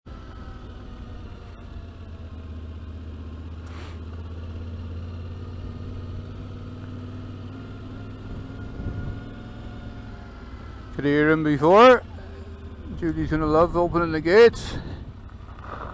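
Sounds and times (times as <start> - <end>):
motorcycle engine running steadily: 0.0 - 15.9.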